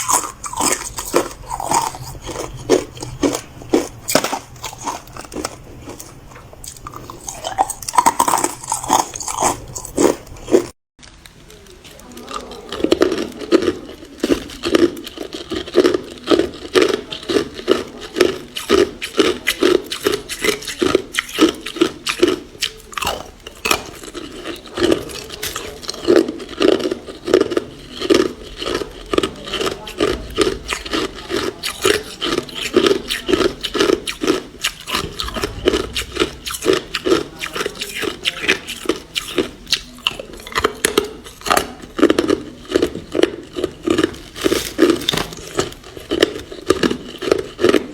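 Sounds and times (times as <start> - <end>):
ice crunching between teeth: 0.0 - 47.9.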